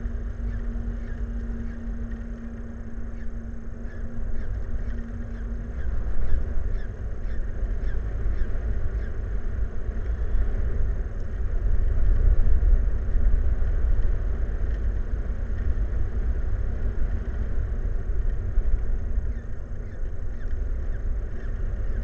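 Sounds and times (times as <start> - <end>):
low rumbling noise: 0.0 - 22.0.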